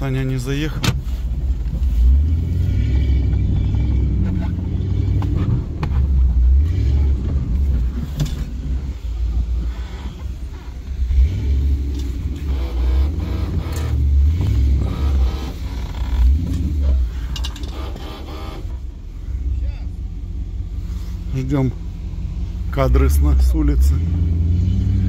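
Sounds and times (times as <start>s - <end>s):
vehicle engine rumbling under load: 0.0s - 25.0s.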